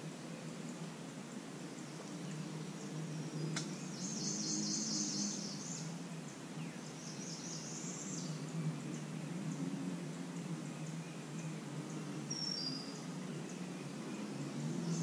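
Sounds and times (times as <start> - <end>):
small bird singing: 0.2 - 15.0.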